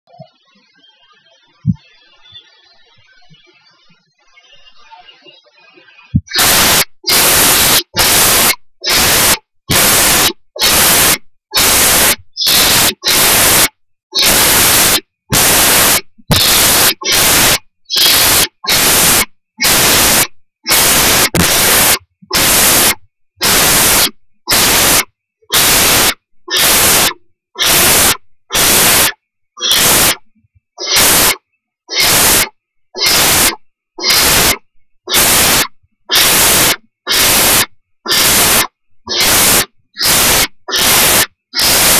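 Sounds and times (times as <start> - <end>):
owlets hissing calls: 6.2 - 30.2, 30.8 - 41.9.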